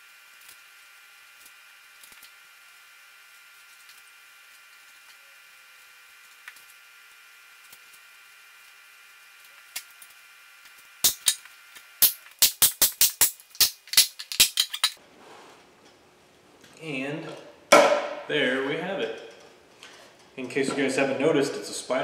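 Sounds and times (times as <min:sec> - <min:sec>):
faint steady background hum: 0:00.0 - 0:22.0.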